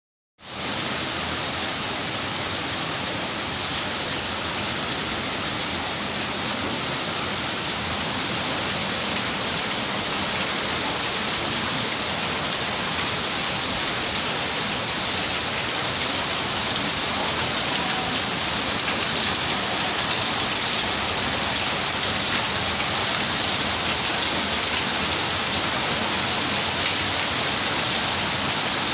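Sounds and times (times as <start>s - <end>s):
rain falling steadily: 0.4s - 28.9s.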